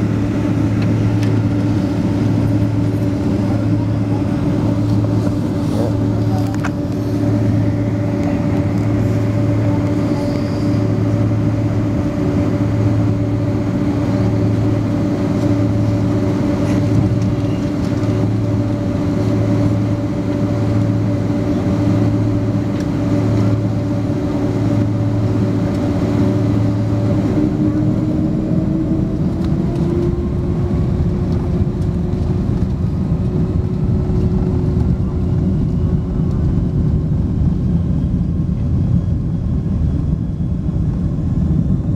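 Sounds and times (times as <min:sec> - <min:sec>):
jet engines from inside cabin: 0:00.0 - 0:41.9.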